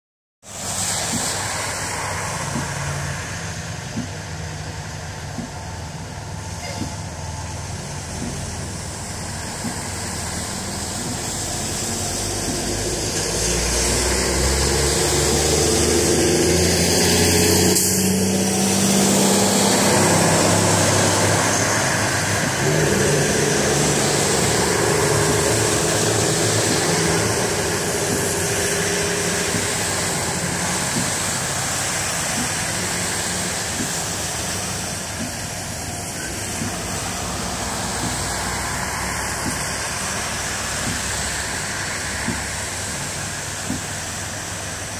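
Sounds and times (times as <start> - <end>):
cars splashing through water: 0.4 - 44.9
street sweeper engine running: 0.4 - 44.9.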